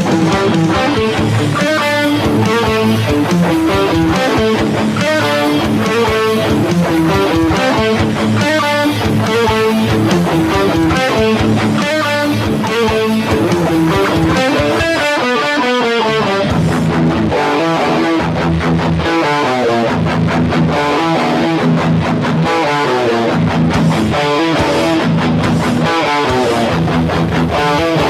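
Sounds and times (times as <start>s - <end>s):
distorted electric guitar riff: 0.0s - 28.0s.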